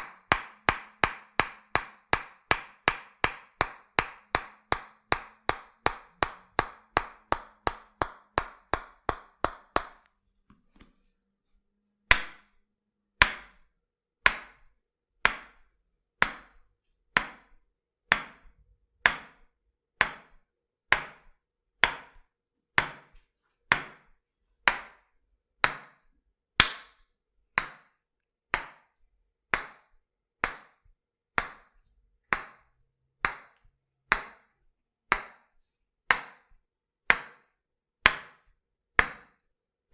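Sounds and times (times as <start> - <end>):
wooden hammer striking: 0.0 - 10.1, 13.2 - 35.5, 36.1 - 39.4.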